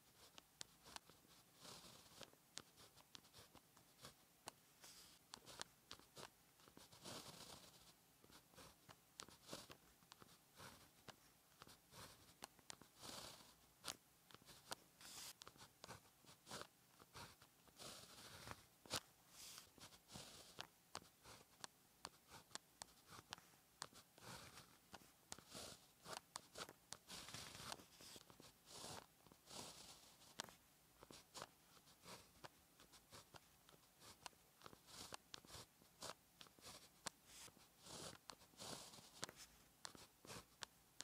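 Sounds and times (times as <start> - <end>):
pen scratching on paper: 0.0 - 41.0.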